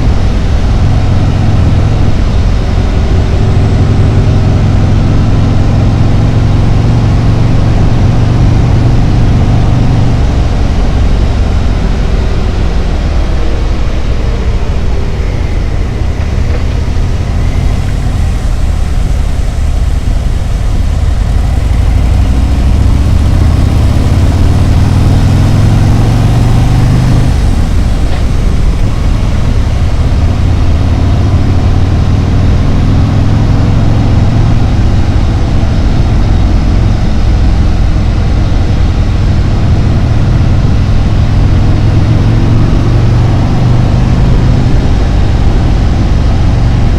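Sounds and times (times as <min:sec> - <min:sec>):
motorcycle engine rumbling: 0:00.0 - 0:46.9.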